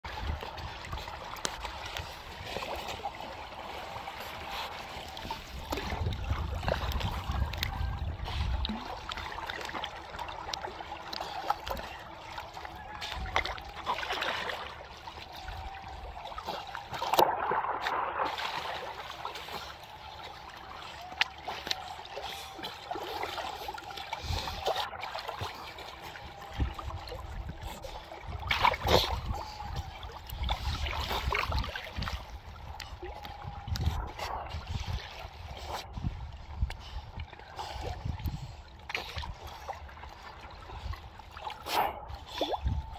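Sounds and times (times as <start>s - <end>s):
seals swimming and splashing: 0.0s - 42.9s
water lapping and splashing: 0.0s - 42.9s.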